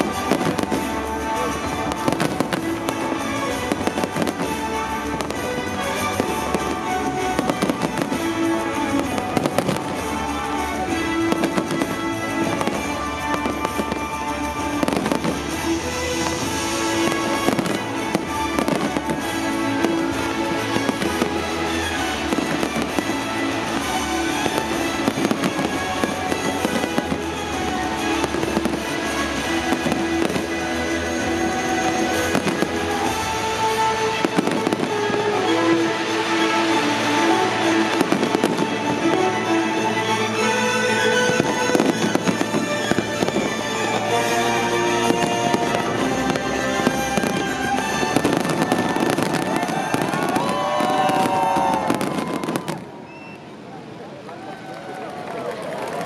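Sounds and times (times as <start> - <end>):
music with sustained tones: 0.0 - 53.0
fireworks bangs: 0.0 - 53.5.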